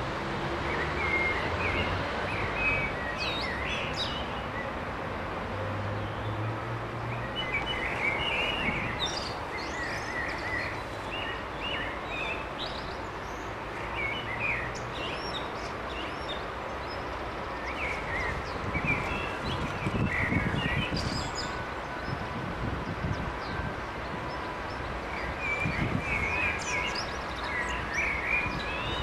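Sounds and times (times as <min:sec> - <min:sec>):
songbirds chirping: 0:00.1 - 0:29.0.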